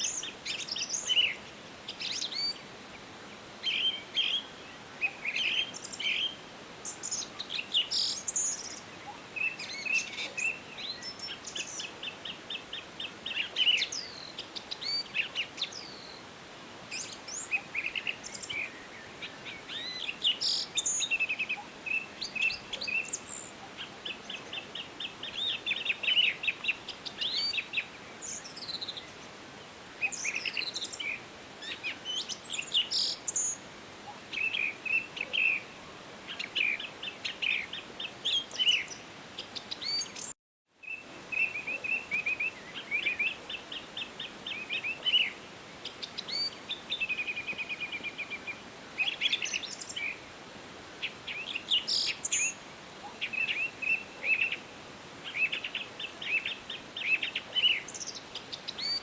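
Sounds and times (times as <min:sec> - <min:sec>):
faint steady hiss: 0:00.0 - 0:59.0
songbirds singing and chirping: 0:00.0 - 0:59.0.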